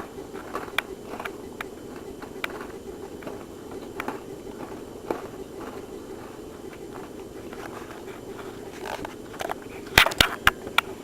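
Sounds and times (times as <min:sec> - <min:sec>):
faint clicks and knocks: 0:00.0 - 0:11.0
low background hum: 0:00.0 - 0:11.0.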